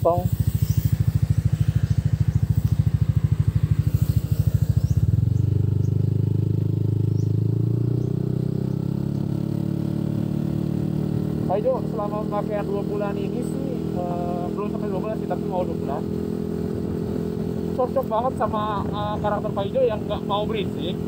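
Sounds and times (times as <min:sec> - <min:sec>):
scooter engine idling and riding off: 0:00.0 - 0:21.0.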